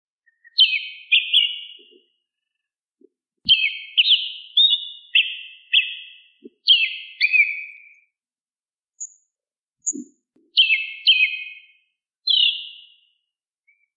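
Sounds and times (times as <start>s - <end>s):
bird chirping: 0.2s - 2.7s, 3.4s - 8.2s, 9.0s - 13.9s.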